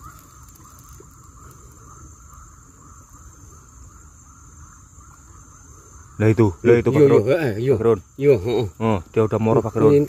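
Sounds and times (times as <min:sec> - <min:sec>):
crickets trilling: 0:00.0 - 0:10.0
insect pulsing call: 0:00.0 - 0:10.0.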